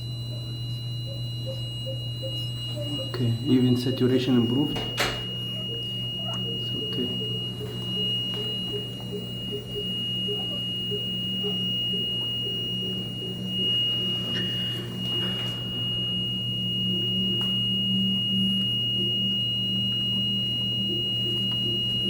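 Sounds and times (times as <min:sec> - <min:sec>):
steady high-pitched tone: 0:00.0 - 0:22.0
steady low hum: 0:00.0 - 0:22.0.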